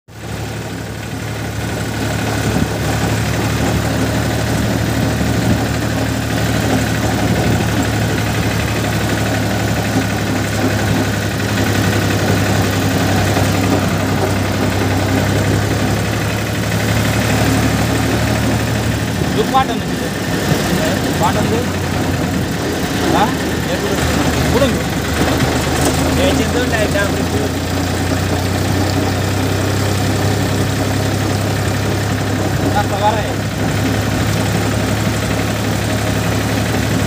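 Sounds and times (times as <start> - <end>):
tractor diesel engine drone: 0.1 - 37.0.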